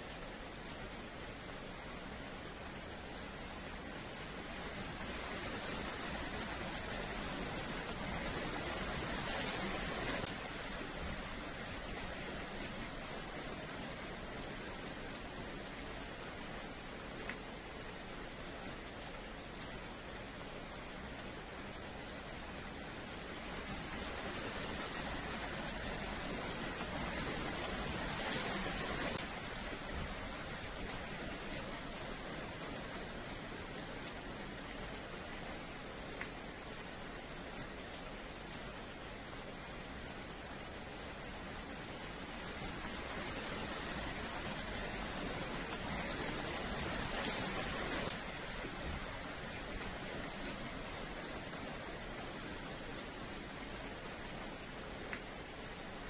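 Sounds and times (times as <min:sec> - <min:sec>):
rain on wet paving: 0:00.0 - 0:56.0.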